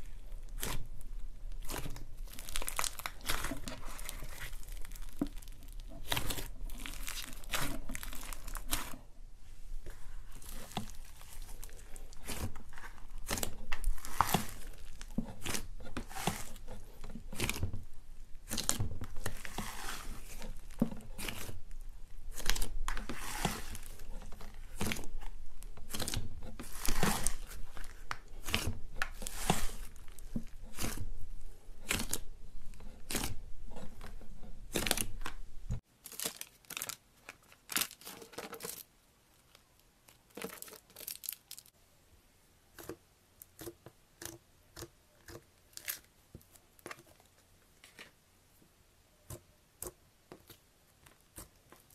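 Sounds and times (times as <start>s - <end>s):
slime crackling and squelching: 0.0s - 41.8s, 42.7s - 48.0s.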